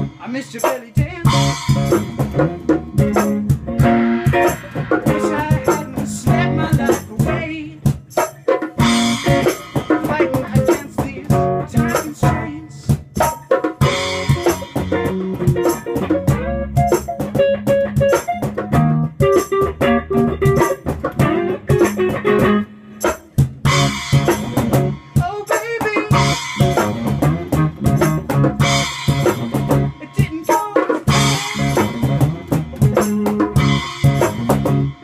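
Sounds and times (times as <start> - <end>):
electric bass: 0.0 - 0.4, 1.2 - 7.6, 8.8 - 13.2, 13.8 - 25.2, 26.1 - 30.1, 31.1 - 35.0
cajon beat: 0.0 - 35.0
strummed electric guitar: 0.0 - 35.0.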